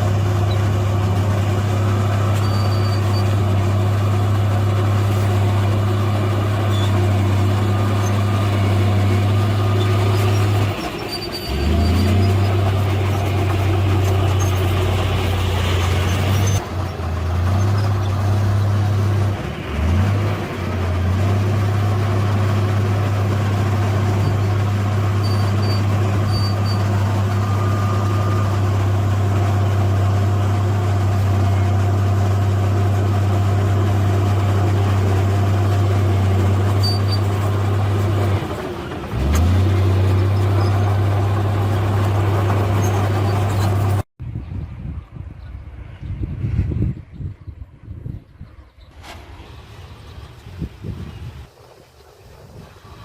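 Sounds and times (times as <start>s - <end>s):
heavy diesel engine running: 0.0s - 44.1s, 48.9s - 53.0s.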